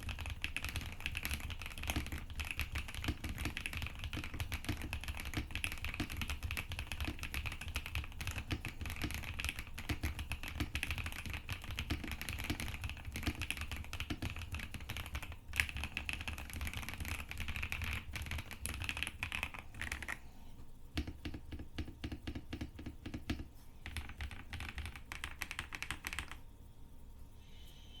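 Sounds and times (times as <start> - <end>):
mechanical keyboard typing: 0.0 - 20.2, 21.0 - 26.4.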